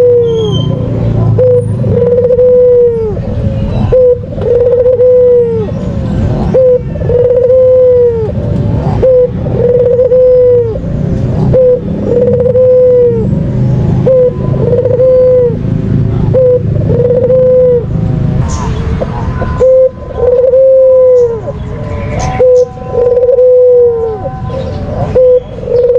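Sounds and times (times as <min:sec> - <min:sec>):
dove cooing: 0:00.0 - 0:15.6, 0:16.2 - 0:25.9.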